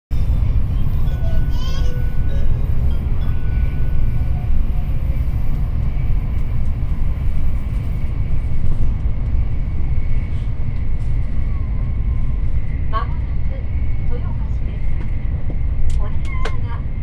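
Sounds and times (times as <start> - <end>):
train low rumble: 0.1 - 17.0.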